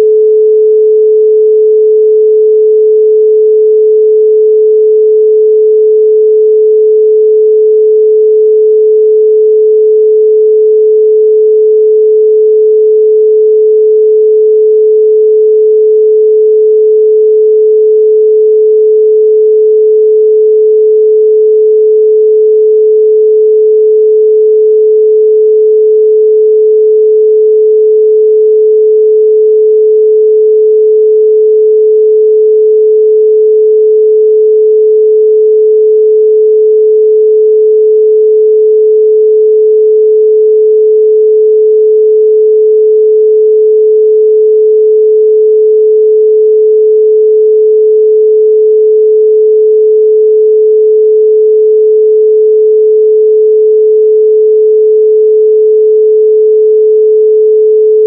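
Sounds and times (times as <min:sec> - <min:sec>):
pure sine tone: 0:00.0 - 0:58.0.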